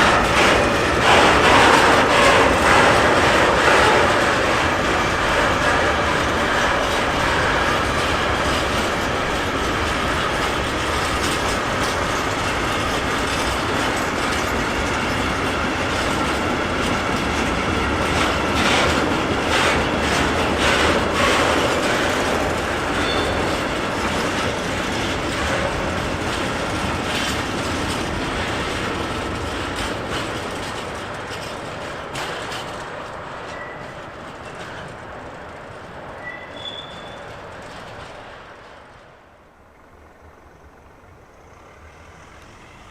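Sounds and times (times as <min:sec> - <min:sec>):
train wheels clattering: 0:00.0 - 0:42.9.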